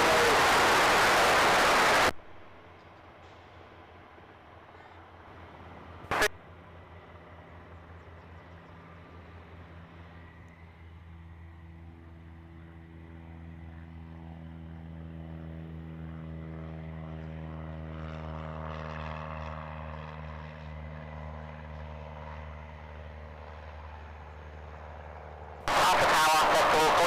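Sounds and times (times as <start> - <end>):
propeller aircraft engine passing: 0.0 - 27.0.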